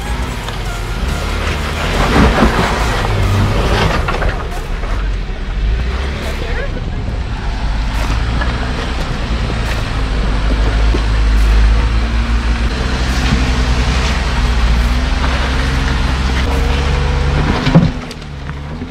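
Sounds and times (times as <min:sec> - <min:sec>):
car engine low rumble: 0:00.0 - 0:18.9.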